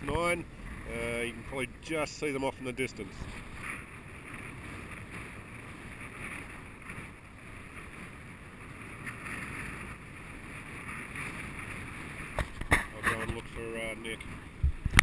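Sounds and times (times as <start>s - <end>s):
sea water washing: 0.0s - 15.0s
wind buffeting microphone: 0.0s - 15.0s.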